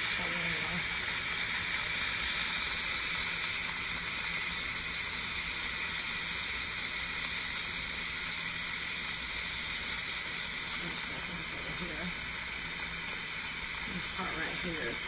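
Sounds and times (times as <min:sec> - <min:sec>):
pressure cooker valve hissing: 0:00.0 - 0:15.0.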